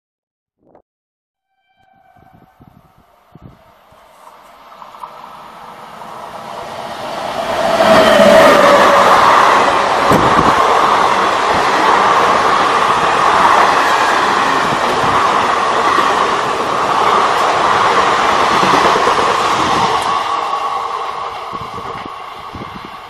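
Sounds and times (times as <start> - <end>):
train passing at high speed: 1.5 - 23.0.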